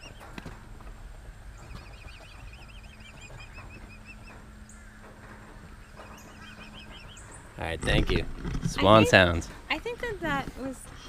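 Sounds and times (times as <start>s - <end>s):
cygnets peeping: 0.0s - 11.0s.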